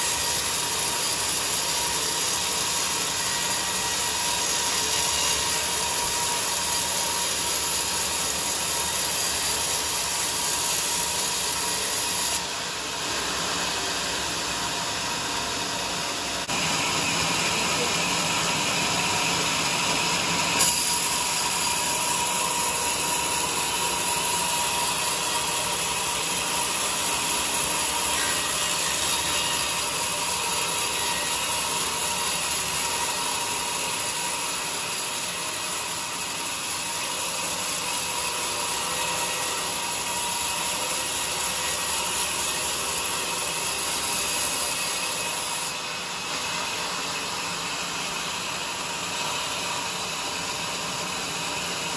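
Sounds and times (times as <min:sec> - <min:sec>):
sawmill saw cutting log: 0:00.0 - 0:51.9.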